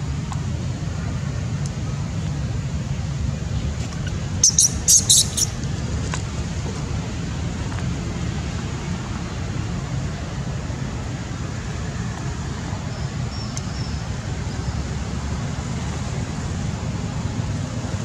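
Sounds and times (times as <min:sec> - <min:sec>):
low rumble of outdoor background noise: 0:00.0 - 0:18.0.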